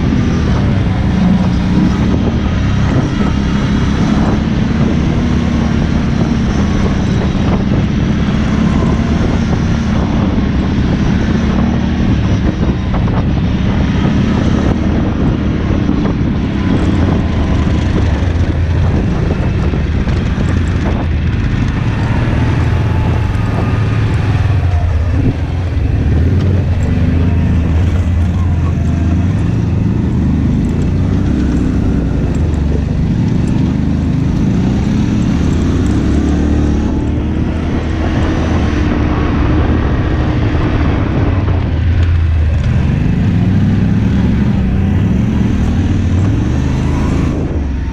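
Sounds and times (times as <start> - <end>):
engine running loudly: 0.0 - 47.9.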